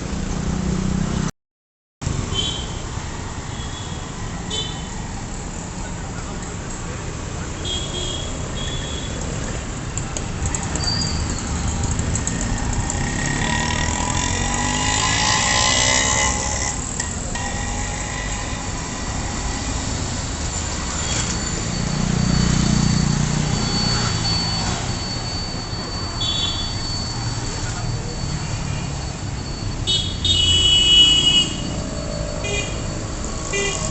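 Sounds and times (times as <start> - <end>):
road traffic: 0.0 - 1.3, 2.0 - 33.9.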